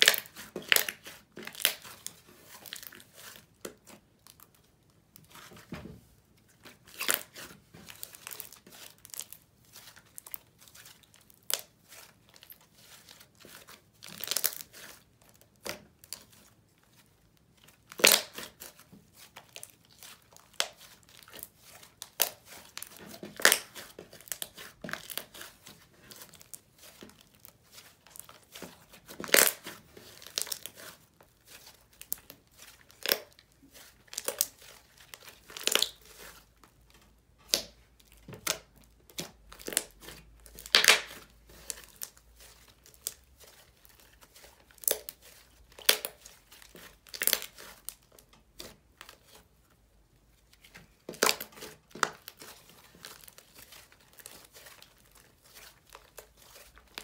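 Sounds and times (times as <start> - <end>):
slime crackling and popping: 0.0 - 4.6, 6.8 - 16.4, 17.7 - 36.2, 37.4 - 49.3, 51.1 - 57.0.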